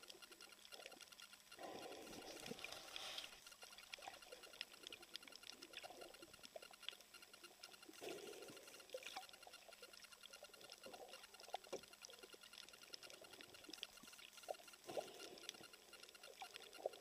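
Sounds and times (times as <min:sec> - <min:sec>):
crackle of tiny underwater clicks: 0:00.0 - 0:17.0
underwater water noise: 0:00.0 - 0:17.0.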